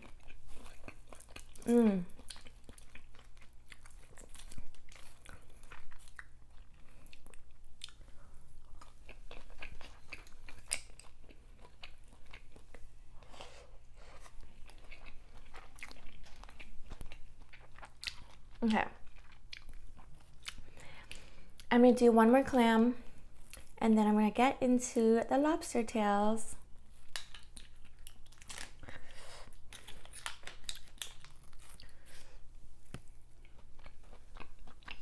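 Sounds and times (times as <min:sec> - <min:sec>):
person chewing with wet smacks: 0:00.0 - 0:13.4, 0:14.1 - 0:21.7, 0:23.4 - 0:23.8, 0:26.7 - 0:35.0.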